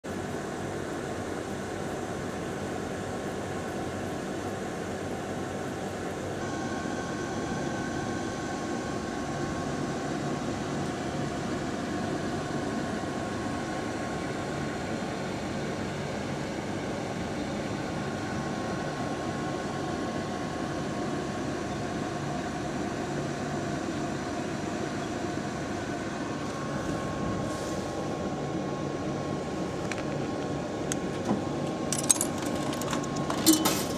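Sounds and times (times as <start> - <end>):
vending machine mechanical hum: 0.0 - 33.9.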